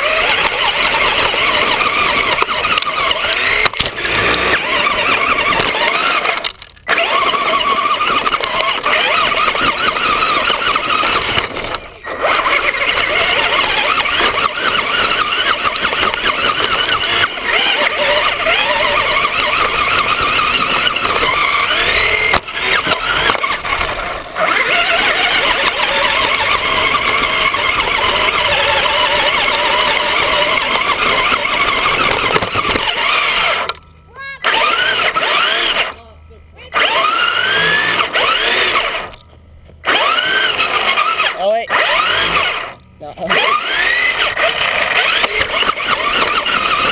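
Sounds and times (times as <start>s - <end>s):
electric motor and gears whining: 0.0s - 46.9s
tyres and chassis rattling: 0.0s - 46.9s.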